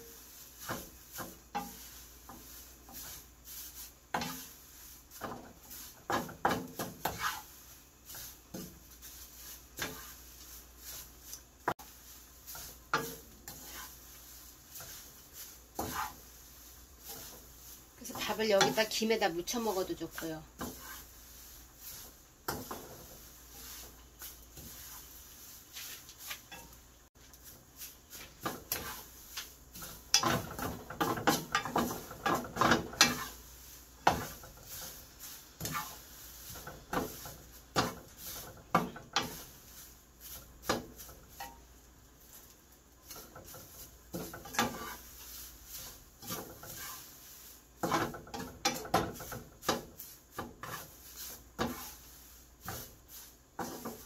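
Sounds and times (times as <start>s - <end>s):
wooden utensils scraping a frying pan: 0.0s - 54.0s.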